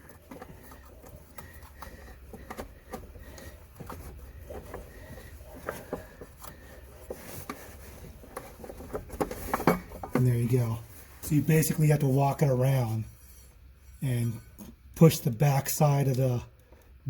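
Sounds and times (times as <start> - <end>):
rubber belt rubbing: 0.0 - 14.7.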